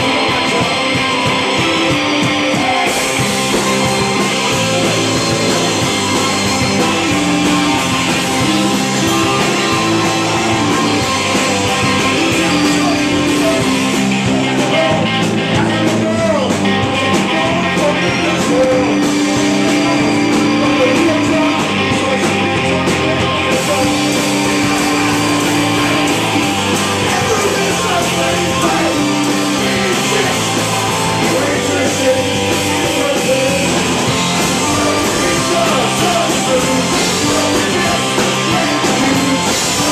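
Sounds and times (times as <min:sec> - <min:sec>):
live rock band playing: 0:00.0 - 0:39.9
man singing: 0:00.0 - 0:39.9.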